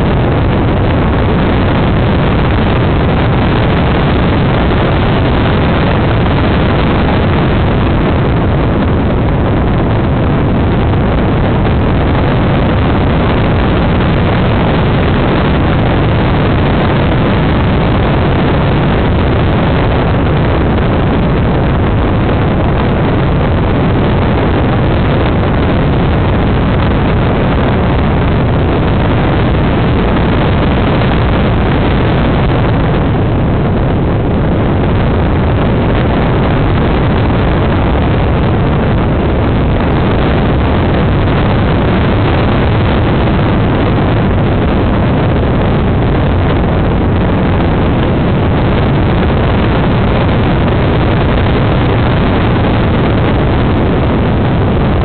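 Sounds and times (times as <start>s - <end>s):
aircraft engine drone: 0.0s - 55.0s
wind on microphone: 0.0s - 55.0s.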